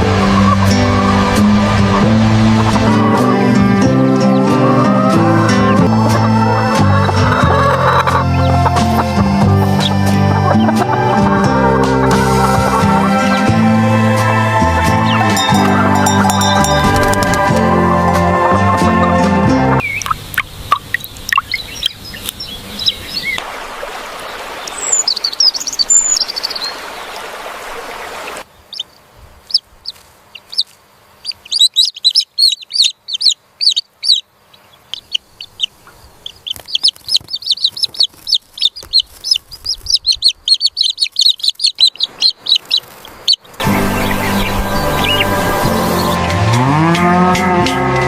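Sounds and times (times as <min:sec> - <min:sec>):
bird chirping: 0:00.0 - 0:11.6, 0:12.2 - 0:17.5, 0:19.8 - 0:23.4, 0:24.2 - 0:27.2, 0:28.4 - 0:47.0.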